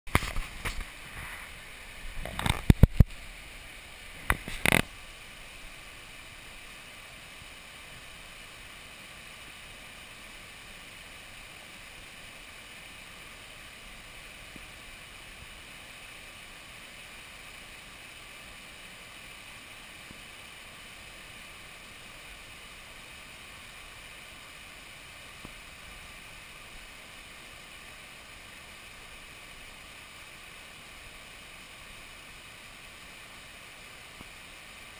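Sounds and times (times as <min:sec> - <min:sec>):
water rushing over weir: 0:00.1 - 0:34.9.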